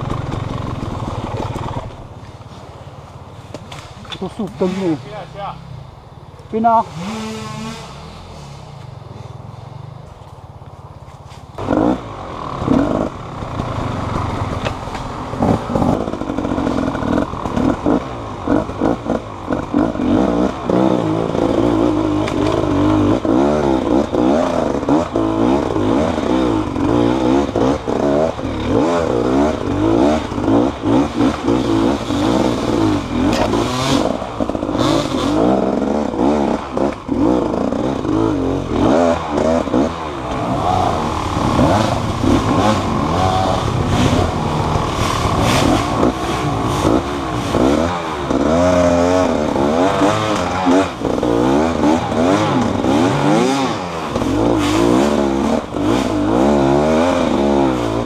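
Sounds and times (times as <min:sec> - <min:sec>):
motorcycle engine revving: 0:00.0 - 0:02.6, 0:03.5 - 0:10.1, 0:11.6 - 0:58.0.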